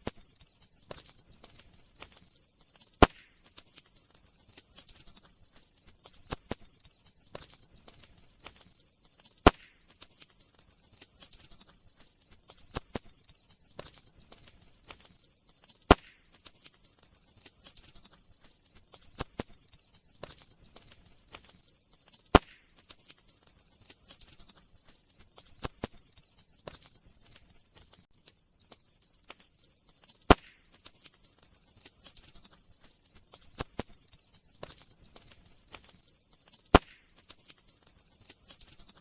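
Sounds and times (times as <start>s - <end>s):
campfire crackling: 0.0s - 39.0s
sharp fire snaps: 0.0s - 39.0s.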